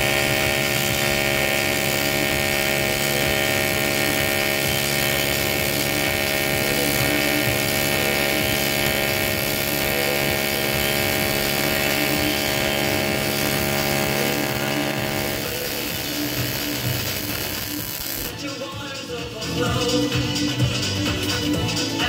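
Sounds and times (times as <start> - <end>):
welding hiss: 0.0 - 18.4
welding arc buzzing: 0.0 - 18.6.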